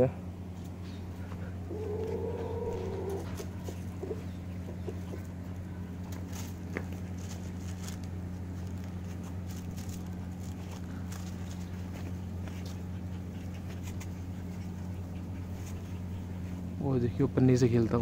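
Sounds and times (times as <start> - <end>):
steady low hum: 0.0 - 18.0
puppies scuffling: 0.6 - 18.0.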